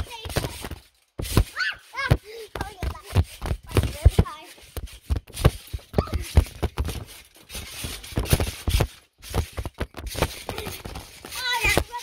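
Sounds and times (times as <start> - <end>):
thumps of trampoline jumping: 0.0 - 12.0.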